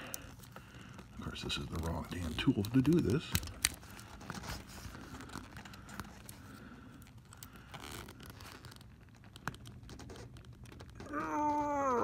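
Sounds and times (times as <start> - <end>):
faint scratching: 0.8 - 11.5.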